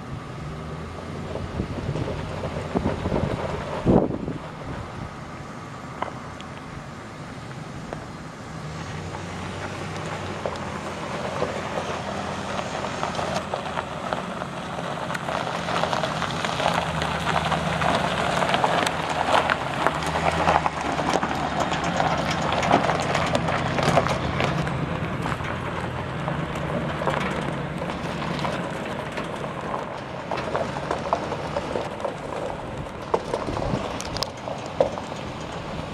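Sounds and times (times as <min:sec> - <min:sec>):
pickup truck engine running: 0:00.0 - 0:35.9
tires crunching on gravel: 0:00.0 - 0:35.9.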